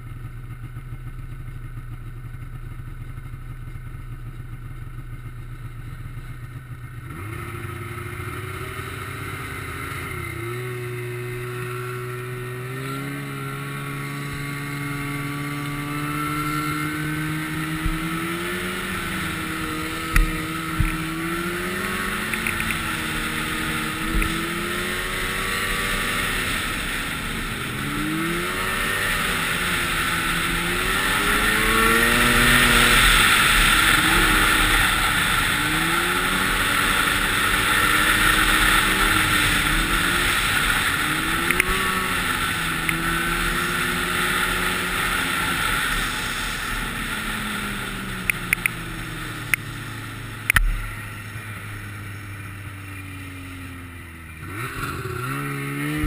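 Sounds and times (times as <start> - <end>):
snowmobile engine idling and revving: 0.0 - 56.0.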